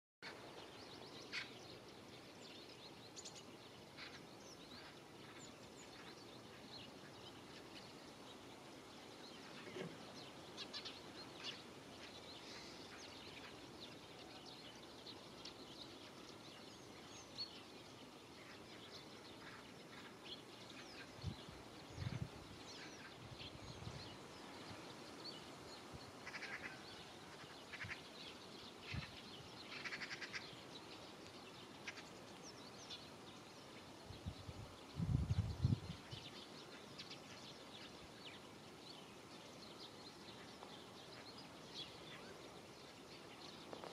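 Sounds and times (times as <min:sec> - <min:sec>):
soft steady hiss: 0:00.2 - 0:43.9.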